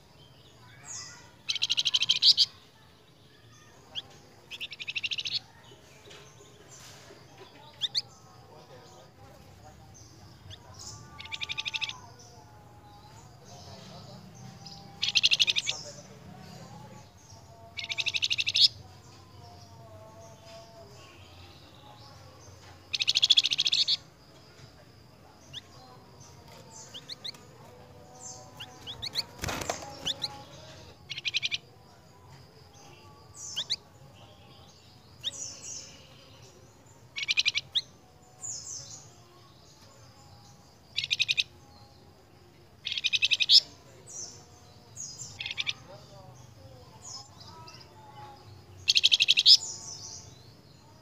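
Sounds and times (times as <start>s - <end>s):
songbird singing rattling phrases: 0.0s - 51.0s.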